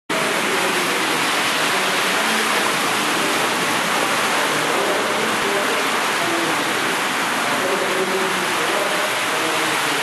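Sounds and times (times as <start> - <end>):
heavy rain on street: 0.1 - 10.0.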